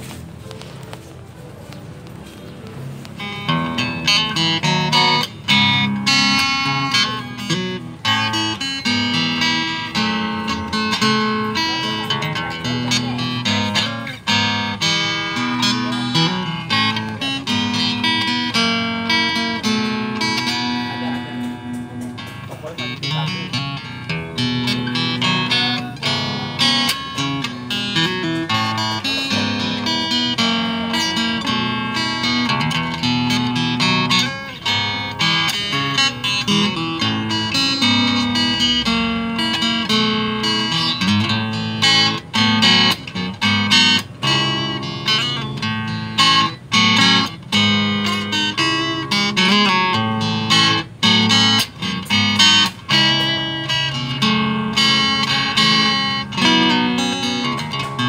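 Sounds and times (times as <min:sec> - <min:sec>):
amplified acoustic guitar playing: 0:00.0 - 0:58.0.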